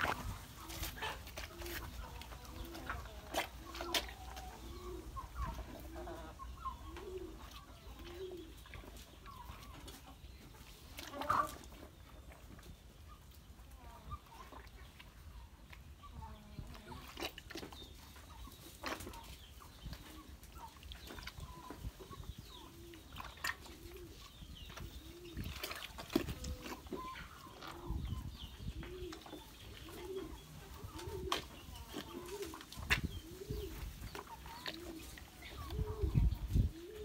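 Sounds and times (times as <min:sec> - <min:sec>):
cow chewing feed: 0:00.0 - 0:12.8, 0:16.7 - 0:37.0.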